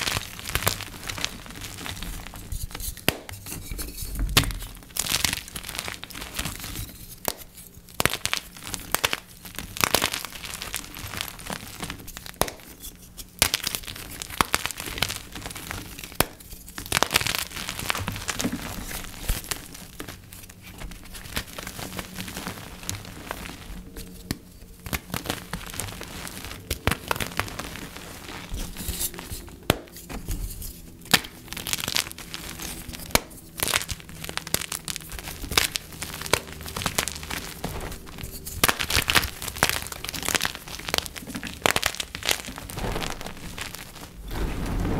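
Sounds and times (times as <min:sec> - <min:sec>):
chalk blocks crunching: 0:00.0 - 0:44.3.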